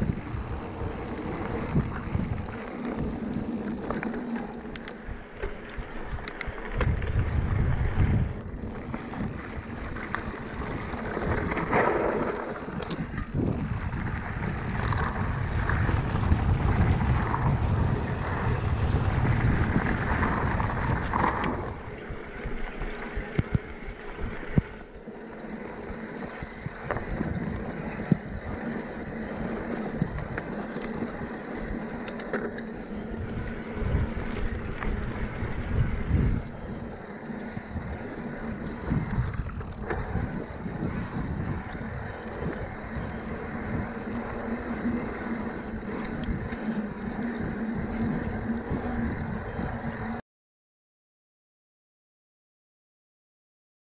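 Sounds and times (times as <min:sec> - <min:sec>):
tyres on dirt and gravel: 0:00.0 - 0:50.2
wind rumbling on microphone: 0:00.0 - 0:50.2
bike clicks and rattles: 0:00.1 - 0:50.2.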